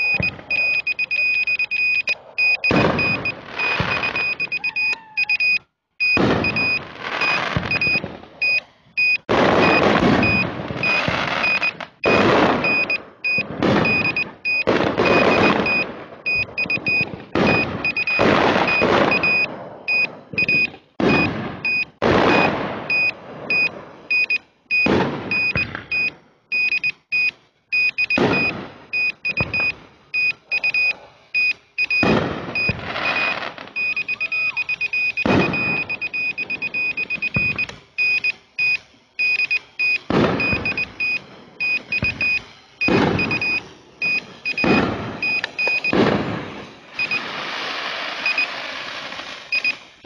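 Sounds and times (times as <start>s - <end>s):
fireworks banging and crackling: 0.0s - 27.1s, 27.8s - 50.0s
electronic beeping: 0.0s - 46.0s, 46.9s - 47.3s, 48.2s - 48.6s, 49.5s - 49.8s.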